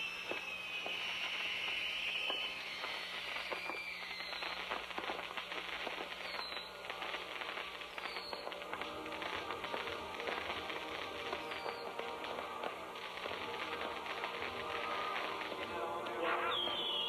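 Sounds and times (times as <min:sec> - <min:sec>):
firework crackling pops: 0:00.0 - 0:17.0
firework fountain hissing: 0:00.0 - 0:17.0.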